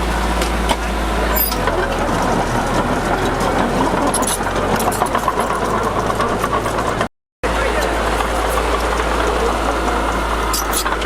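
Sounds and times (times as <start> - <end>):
dirt and metal crunching: 0.0 - 11.0
heavy diesel engine running: 0.0 - 11.0.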